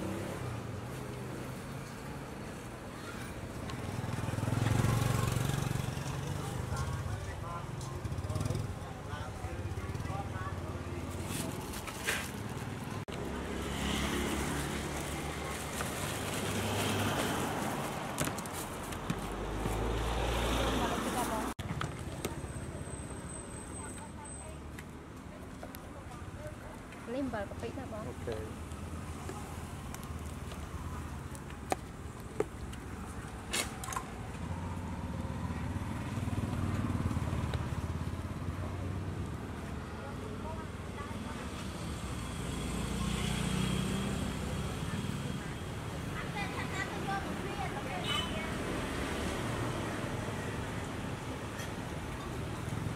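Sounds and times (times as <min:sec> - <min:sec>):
motor vehicles humming: 0:00.0 - 0:52.9
street traffic rumble: 0:00.0 - 0:52.9.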